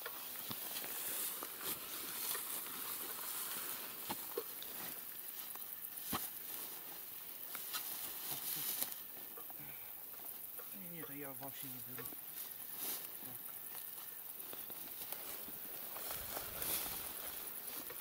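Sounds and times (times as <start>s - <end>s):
dry grass rustling: 0.0s - 18.0s.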